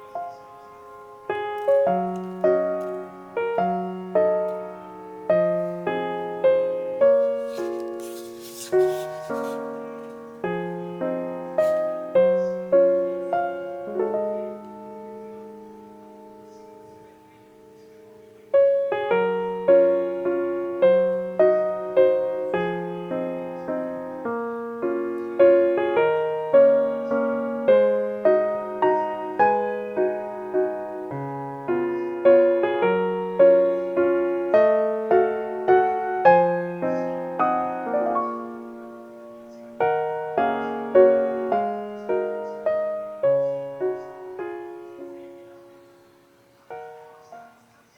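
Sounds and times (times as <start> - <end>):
piano music: 0.0 - 47.9.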